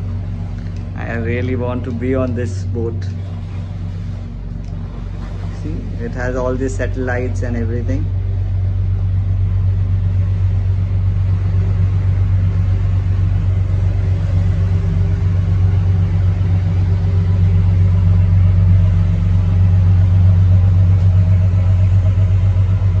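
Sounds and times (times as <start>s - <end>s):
boat engines droning: 0.0s - 23.0s.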